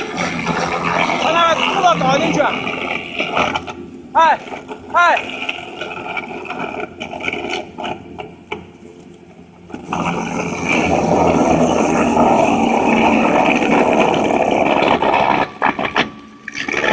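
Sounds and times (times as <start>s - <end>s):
wood chipper grinding wood: 0.0s - 8.6s, 9.7s - 16.9s
steady machine hum: 0.0s - 16.9s.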